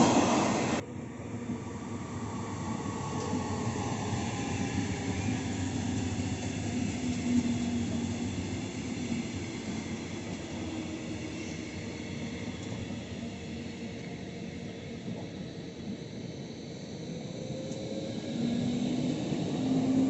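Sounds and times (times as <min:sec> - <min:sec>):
passenger train rolling past: 0:00.0 - 0:20.0.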